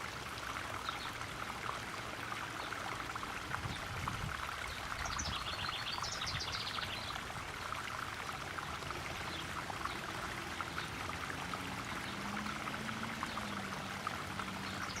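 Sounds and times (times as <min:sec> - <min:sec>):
pond waterfall splashing: 0:00.0 - 0:15.0.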